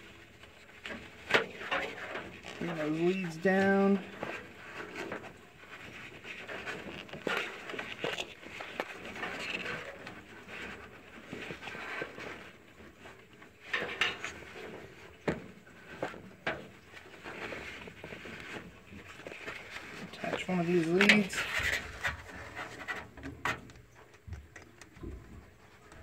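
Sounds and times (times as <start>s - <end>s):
gloved hands rustling wires: 0.0s - 26.0s.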